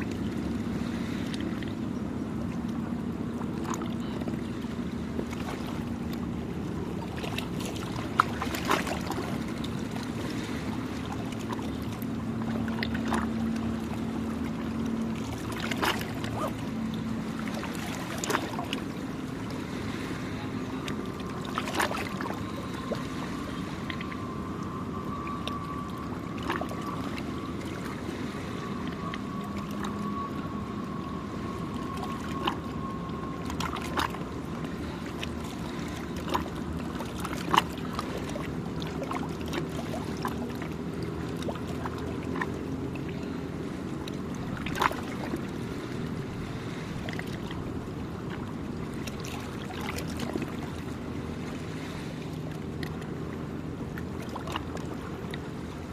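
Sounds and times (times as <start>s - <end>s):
low motor hum: 0.0s - 55.9s
waves lapping at shore: 0.0s - 55.9s
faint thin whine: 0.1s - 55.9s
small splashes and clicks: 1.2s - 1.8s, 2.5s - 6.3s, 6.9s - 19.6s, 20.8s - 28.0s, 28.6s - 43.3s, 44.0s - 45.5s, 48.2s - 51.0s, 52.3s - 53.2s, 53.9s - 55.5s.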